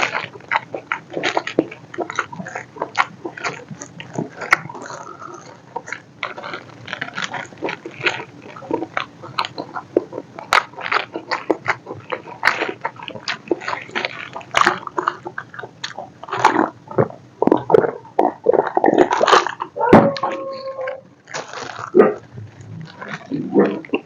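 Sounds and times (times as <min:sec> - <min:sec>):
wet chewing and crunching: 0:00.0 - 0:24.0.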